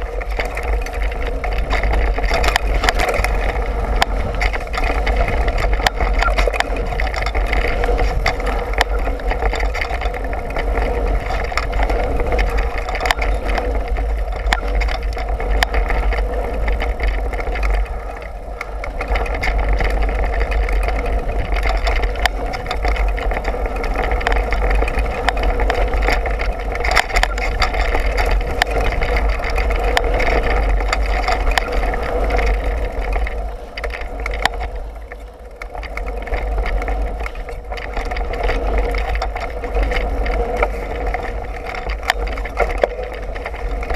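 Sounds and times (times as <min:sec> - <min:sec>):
bike clicks and rattles: 0:00.0 - 0:43.9
bike tyres rolling on dirt: 0:00.0 - 0:43.9
wind rushing over microphone: 0:00.0 - 0:43.9.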